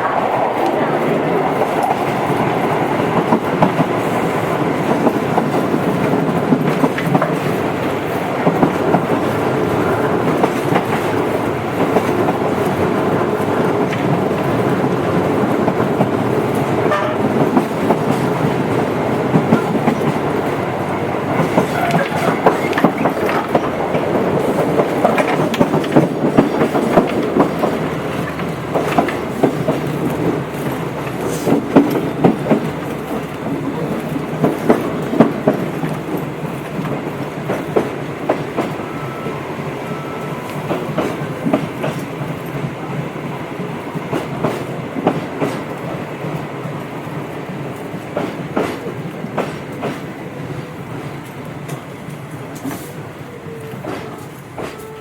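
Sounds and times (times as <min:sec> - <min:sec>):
train rumbling: 0:00.0 - 0:55.0
wheels clacking over rail joints: 0:00.0 - 0:55.0.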